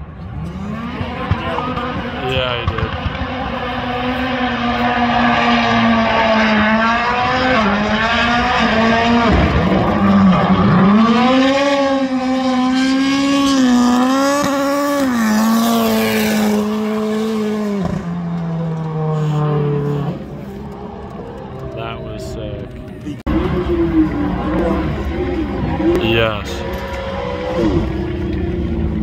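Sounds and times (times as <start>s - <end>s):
car engine at high revs: 0.0s - 29.0s.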